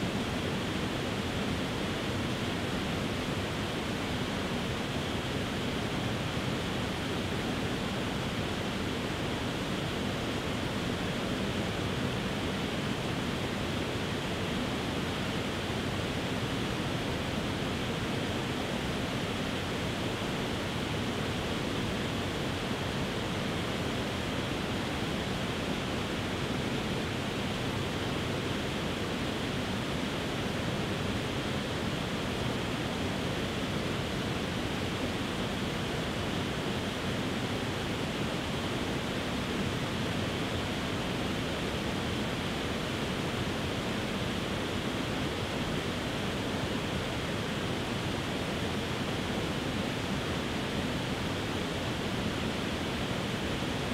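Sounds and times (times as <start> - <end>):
waterfall rushing over rocks: 0.0 - 53.9.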